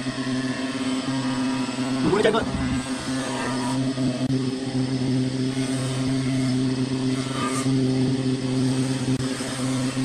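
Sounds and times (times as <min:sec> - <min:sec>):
steady motor hum: 0:00.0 - 0:10.0.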